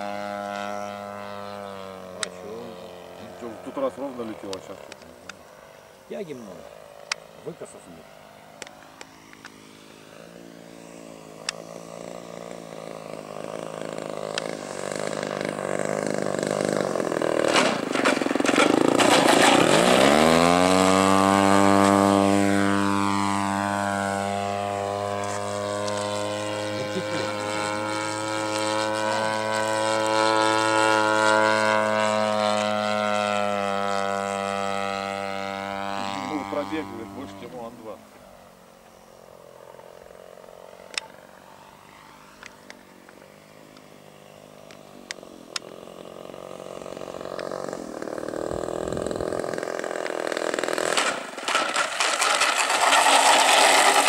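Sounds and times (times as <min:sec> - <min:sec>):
model plane engine revving: 0:00.0 - 0:54.0.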